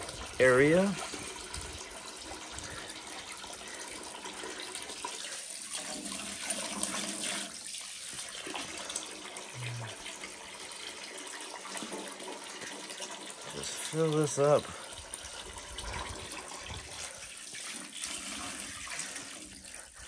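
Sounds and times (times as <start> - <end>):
hose water splashing into tub: 0.0 - 20.0.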